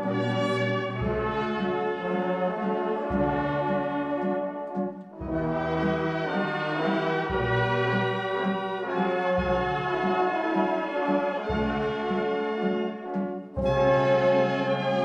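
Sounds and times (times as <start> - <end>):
brass band funeral march: 0.0 - 15.0.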